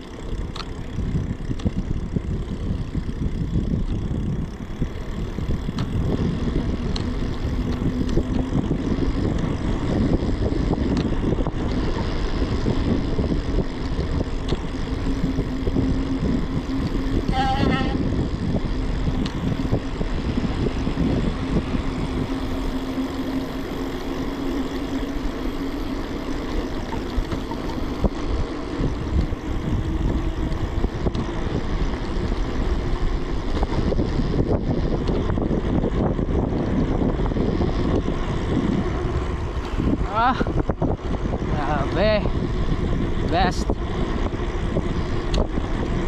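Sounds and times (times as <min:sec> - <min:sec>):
bicycle tyre rumble: 0:00.0 - 0:46.0
low hum: 0:00.0 - 0:46.0
wind buffeting microphone: 0:00.0 - 0:46.0.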